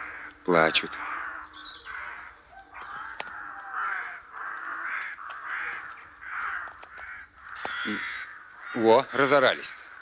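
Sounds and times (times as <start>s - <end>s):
crows cawing: 0.0s - 10.0s.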